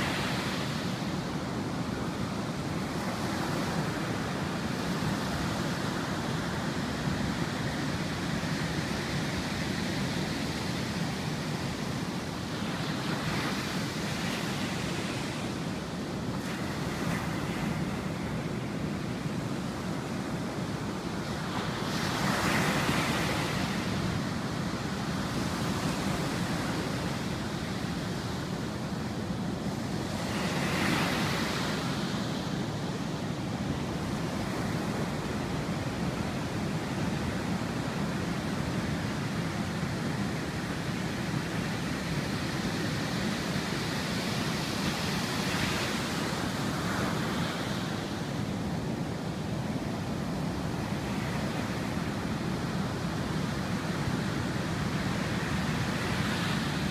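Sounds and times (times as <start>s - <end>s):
surf washing: 0.0s - 56.9s.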